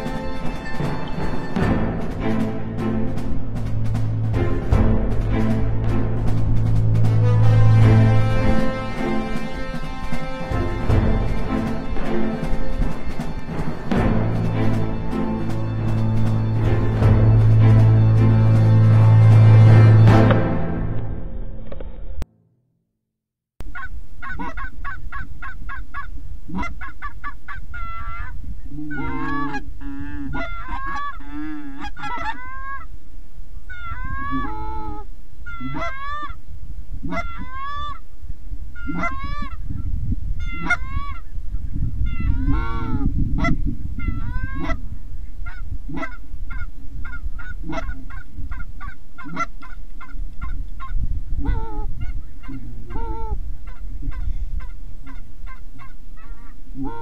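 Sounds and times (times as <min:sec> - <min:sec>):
geese honking and clucking: 0:00.0 - 0:20.6, 0:23.6 - 0:38.1, 0:38.7 - 0:57.0
steady low rumble: 0:00.0 - 0:22.2, 0:23.6 - 0:57.0.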